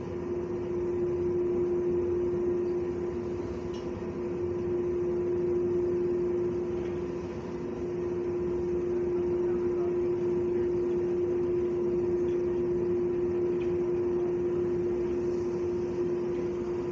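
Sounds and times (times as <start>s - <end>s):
faint high whine: 0.0s - 16.9s
machine hum: 0.0s - 16.9s.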